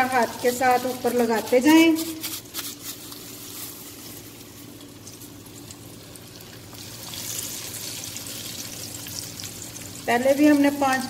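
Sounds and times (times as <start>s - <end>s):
fish sizzling in hot fat: 0.0s - 11.0s
low steady hum: 0.0s - 11.0s.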